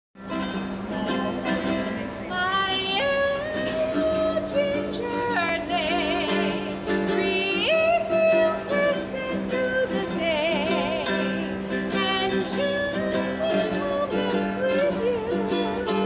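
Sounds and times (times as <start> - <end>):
strummed ukulele: 0.2 - 16.0
woman singing: 0.4 - 16.0.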